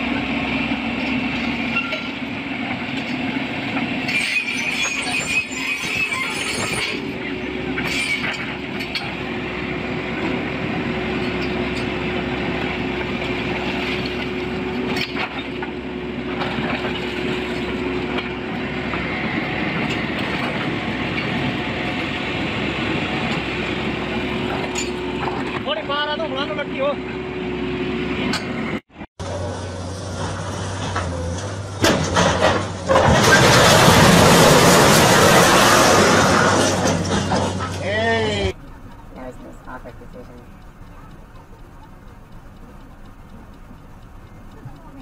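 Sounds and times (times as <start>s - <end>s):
heavy vehicle running: 0.0s - 45.0s.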